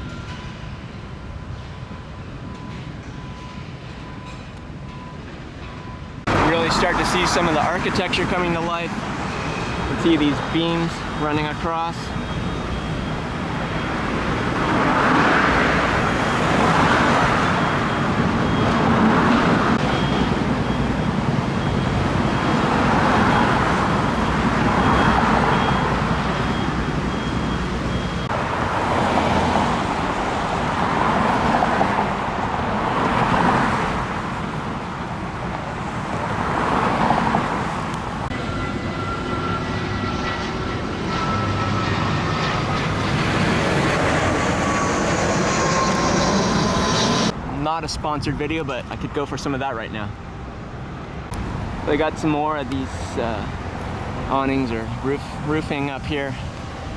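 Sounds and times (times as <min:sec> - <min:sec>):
cars passing: 0:06.2 - 0:56.9.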